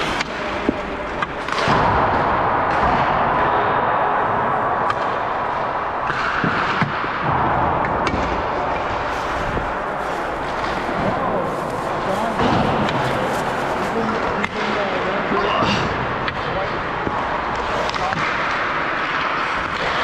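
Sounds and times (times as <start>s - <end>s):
ice rink crowd din: 0.0s - 20.0s
pucks hitting the boards: 0.0s - 20.0s.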